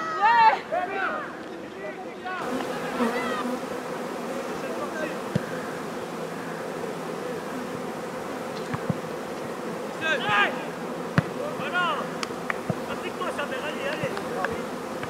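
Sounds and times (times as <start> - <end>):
insect swarm buzzing: 2.4 - 15.0.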